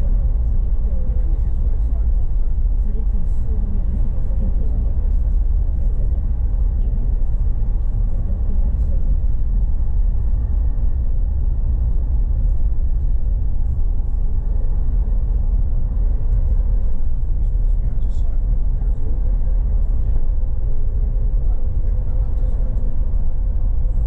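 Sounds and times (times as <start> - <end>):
bus rumbling from inside: 0.0 - 24.0.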